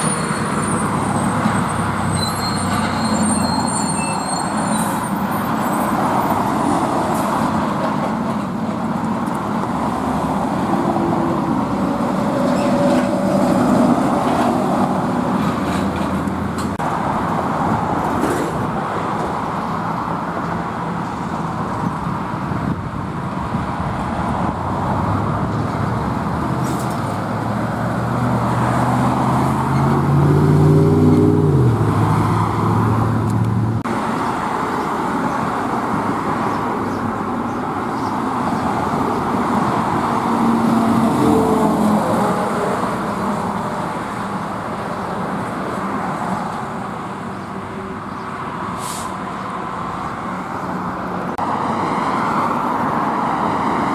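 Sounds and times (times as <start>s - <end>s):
road traffic noise: 0.0s - 53.9s.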